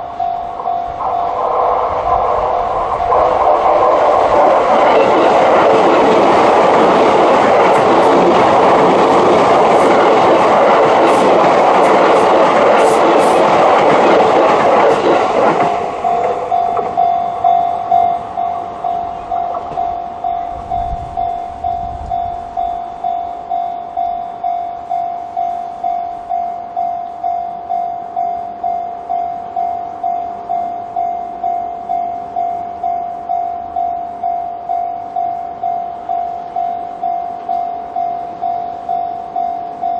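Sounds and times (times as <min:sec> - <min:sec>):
level crossing warning bell: 0:00.0 - 0:39.9
train passing loudly: 0:00.0 - 0:39.9.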